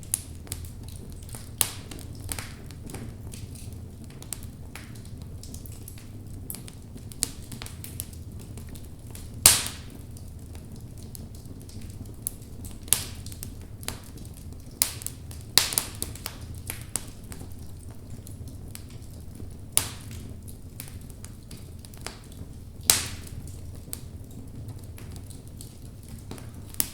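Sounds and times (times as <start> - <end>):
low rumble of flames: 0.0 - 26.9
wood fire crackling: 0.0 - 26.9.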